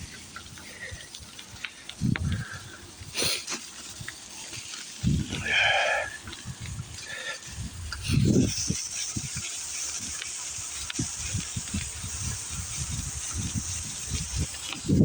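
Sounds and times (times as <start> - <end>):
wind buffeting microphone: 0.0 - 3.2, 5.0 - 15.0
bicycle tyres rolling through snow: 0.0 - 15.0.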